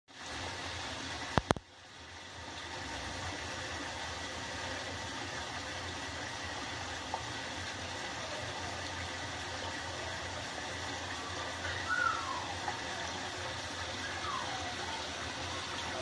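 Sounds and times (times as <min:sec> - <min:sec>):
water splashing into tanks: 0:00.1 - 0:16.0.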